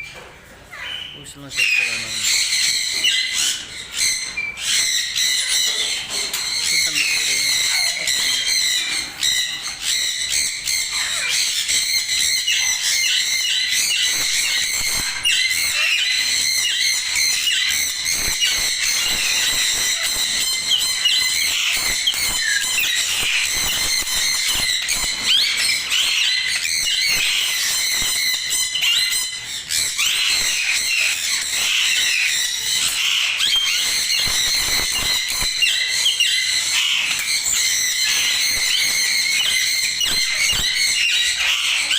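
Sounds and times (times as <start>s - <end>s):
parrots chattering and squawking: 0.0s - 41.9s.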